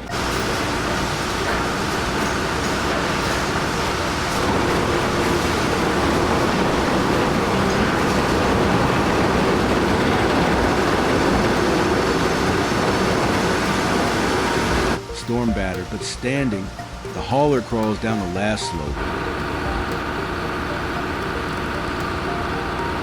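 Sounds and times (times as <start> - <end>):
heavy truck running: 0.0 - 23.0.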